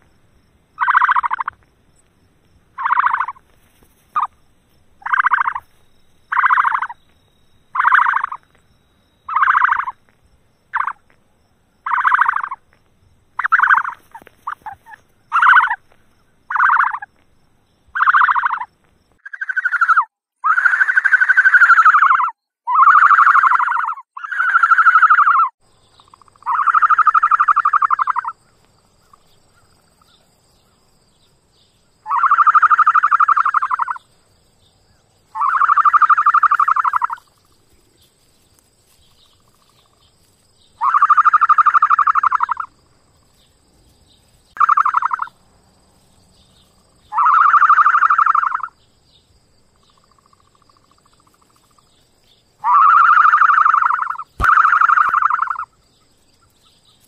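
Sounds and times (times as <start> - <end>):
ostrich pulsing calls: 0.8 - 1.6, 2.7 - 4.4, 5.0 - 10.0, 10.7 - 11.2, 11.8 - 12.7, 13.3 - 17.2, 17.9 - 43.6, 44.2 - 45.4, 46.4 - 57.0.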